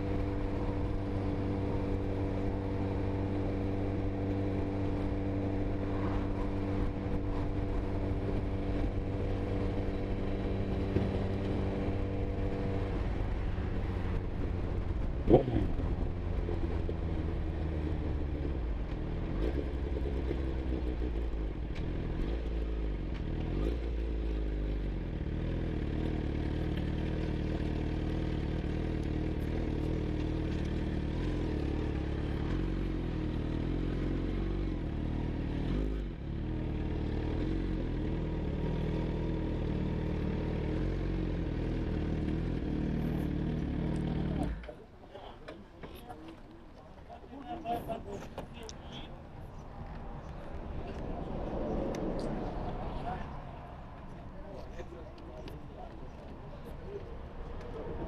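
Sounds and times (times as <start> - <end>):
motorcycle engine: 0.0 - 48.8.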